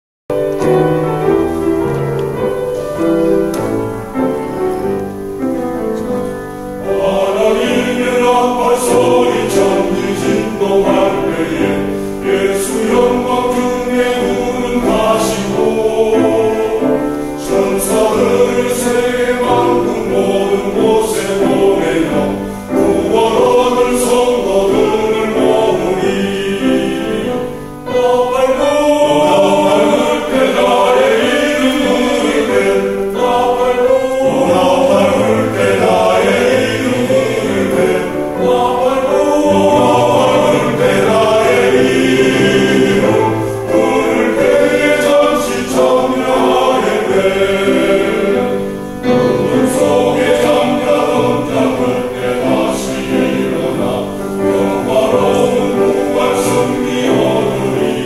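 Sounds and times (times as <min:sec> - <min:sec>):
vocal ensemble singing a hymn: 0:00.3 - 0:58.0.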